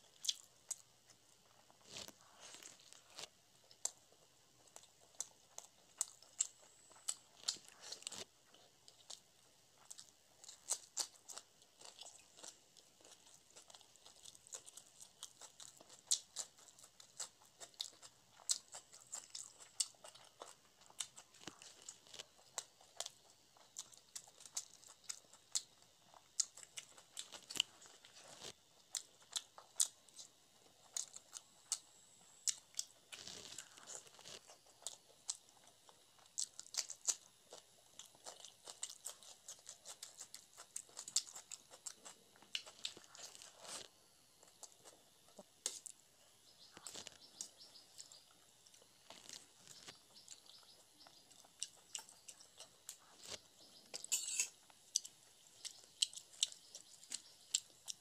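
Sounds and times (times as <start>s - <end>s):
person chewing and smacking: 0.0s - 58.0s.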